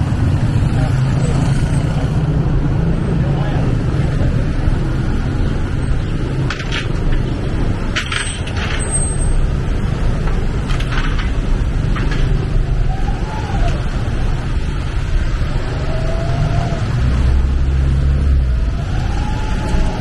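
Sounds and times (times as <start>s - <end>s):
street noise rumble: 0.0s - 20.0s.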